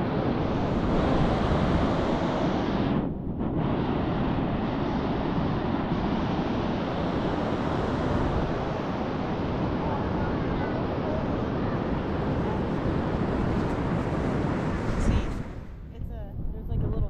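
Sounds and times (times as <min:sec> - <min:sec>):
ocean surf on a beach: 0:00.0 - 0:03.0, 0:03.6 - 0:15.8
wind buffeting microphone: 0:00.0 - 0:17.0.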